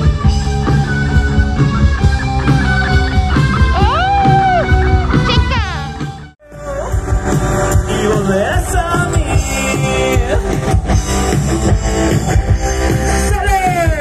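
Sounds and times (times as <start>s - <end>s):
guitar-led rock music: 0.0s - 14.0s.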